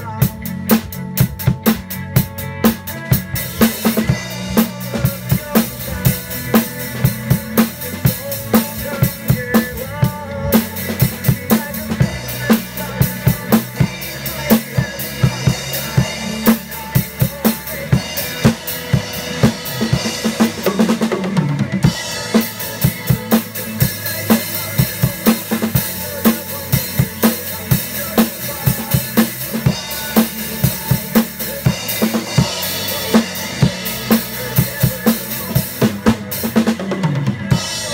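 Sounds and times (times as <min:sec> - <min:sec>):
drum kit groove: 0:00.0 - 0:37.9.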